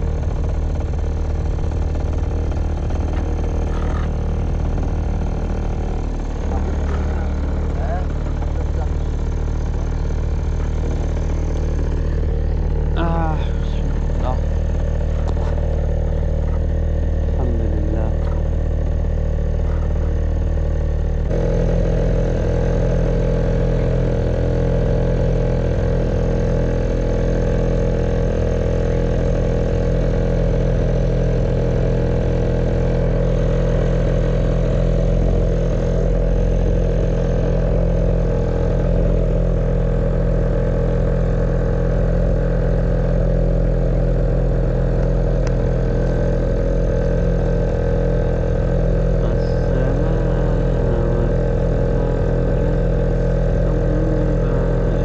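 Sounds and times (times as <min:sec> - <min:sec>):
boat motor running: 0:00.0 - 0:55.0.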